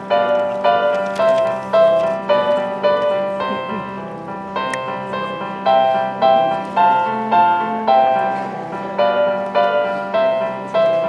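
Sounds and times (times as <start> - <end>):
simple piano melody: 0.0 - 11.0.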